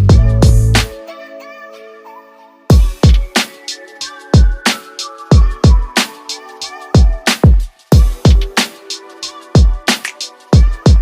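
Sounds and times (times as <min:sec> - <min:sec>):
electronic music with heavy beat: 0:00.0 - 0:01.2, 0:02.7 - 0:11.0.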